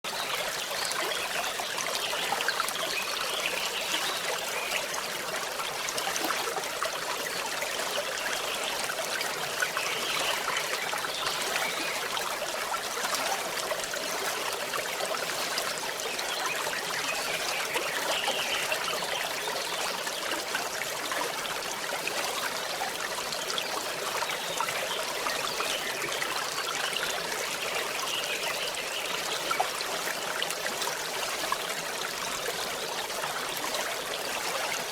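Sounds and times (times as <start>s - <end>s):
small stream trickling: 0.0s - 34.9s.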